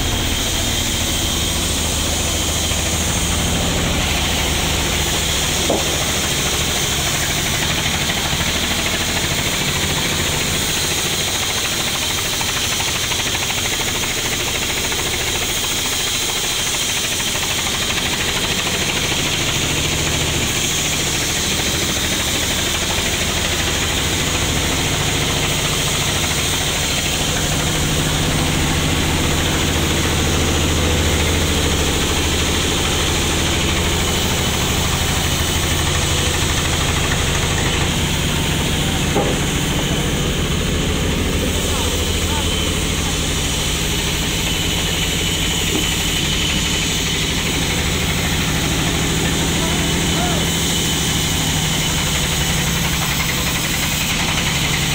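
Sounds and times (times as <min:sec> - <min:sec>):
band saw machinery running: 0:00.0 - 0:54.9.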